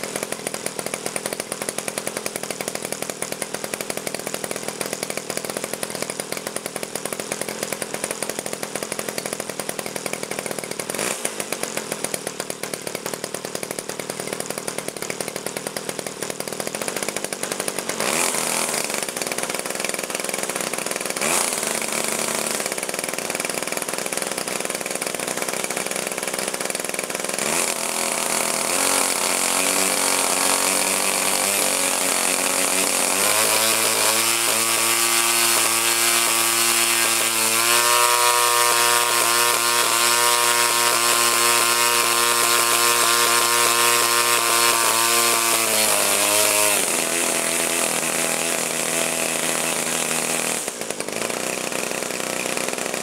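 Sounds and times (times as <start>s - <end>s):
model plane engine popping and revving: 0.0s - 53.0s.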